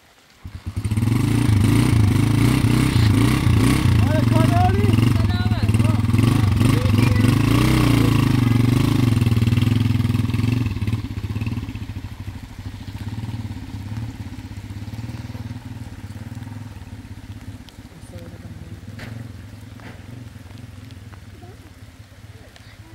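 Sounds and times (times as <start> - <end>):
small motorcycle riding off: 0.4 - 22.9.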